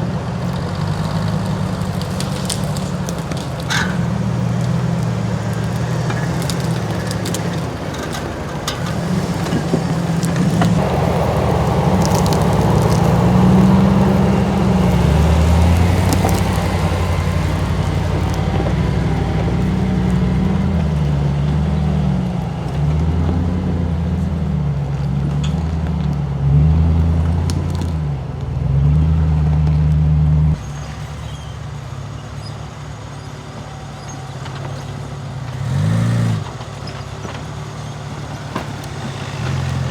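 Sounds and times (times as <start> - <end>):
vehicle engine revving: 0.0 - 32.2, 33.5 - 39.9
engine idling: 0.0 - 35.6.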